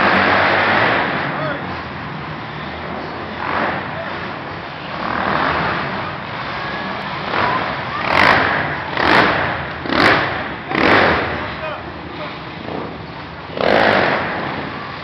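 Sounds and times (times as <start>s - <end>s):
quad bike engines running: 0.0s - 15.0s.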